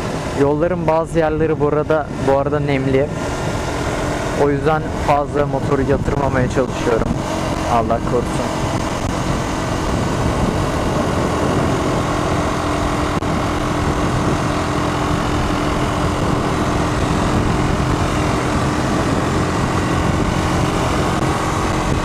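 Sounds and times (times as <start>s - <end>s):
motorcycle engine cruising: 0.0s - 22.0s
wind rush over microphone: 0.0s - 22.0s.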